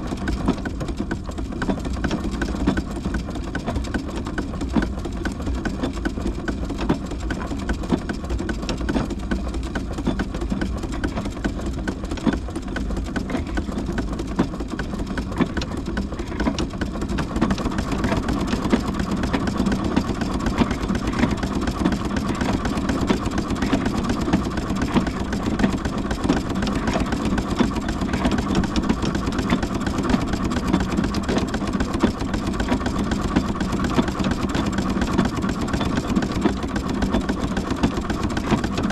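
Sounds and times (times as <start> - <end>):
steam engine clatter: 0.0 - 38.9.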